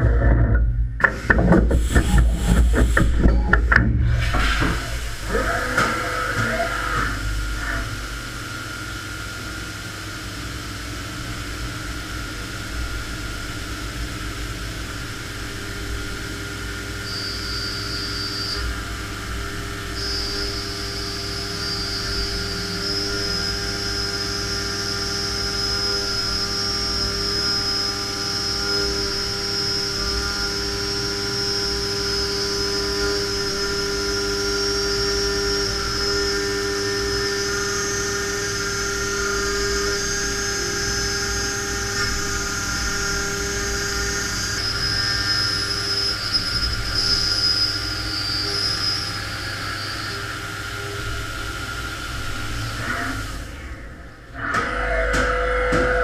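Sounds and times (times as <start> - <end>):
high-pitched cutting whine: 0.0 - 56.0
milling machine running: 0.0 - 56.0.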